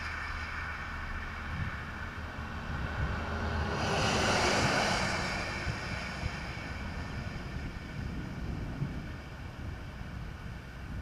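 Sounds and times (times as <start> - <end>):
truck tyres hissing on wet road: 0.0 - 11.0.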